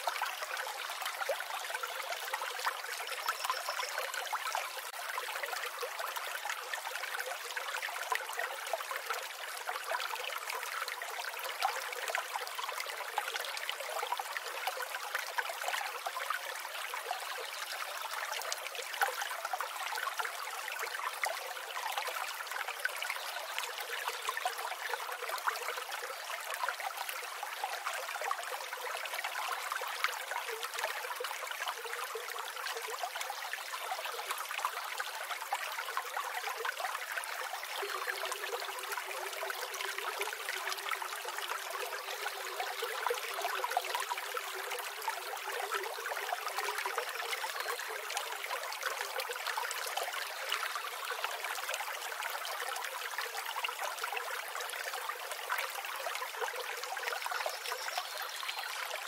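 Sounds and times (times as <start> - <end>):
stream water flowing over stones: 0.0 - 59.0.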